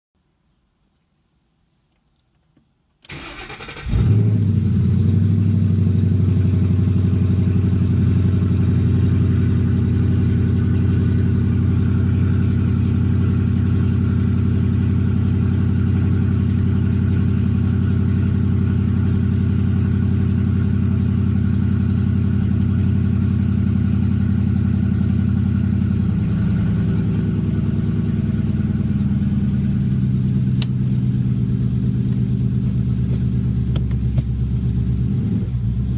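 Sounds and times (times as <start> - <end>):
car engine idling: 3.1 - 35.9.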